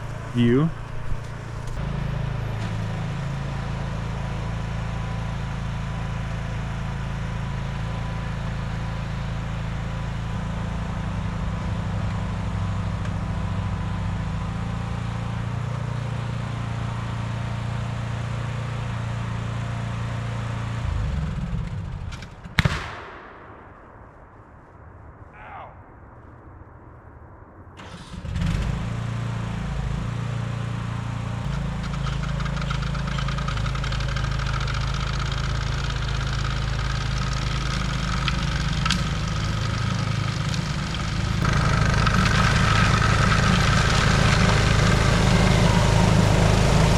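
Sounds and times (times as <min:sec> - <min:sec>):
lawn tractor engine droning: 0:00.0 - 0:22.8, 0:27.8 - 0:46.9.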